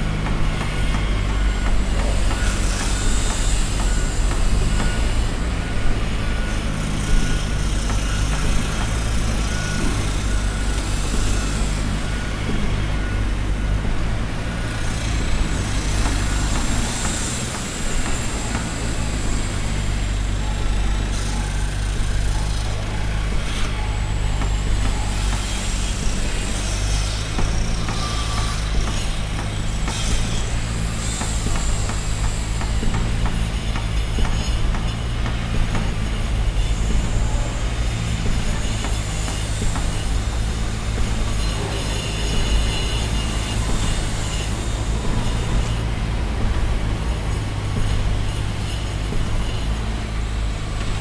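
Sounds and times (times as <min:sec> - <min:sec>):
construction work noise: 0:00.0 - 0:51.0
machinery engine running: 0:00.0 - 0:51.0.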